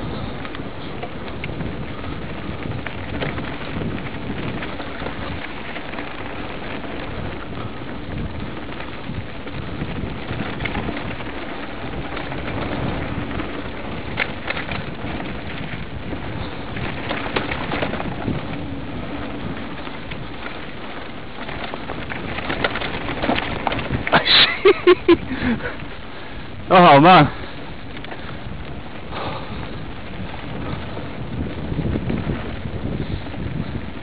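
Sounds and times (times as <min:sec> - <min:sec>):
bike rattling over bumps: 0:00.0 - 0:34.0
bike tyres on dirt and stones: 0:00.0 - 0:34.0
wind on microphone: 0:00.0 - 0:34.0.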